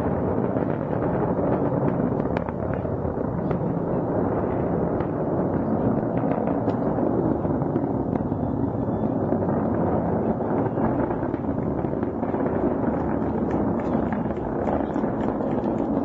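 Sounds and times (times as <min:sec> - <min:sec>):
rocket exhaust rumble with crackles: 0:00.0 - 0:16.0.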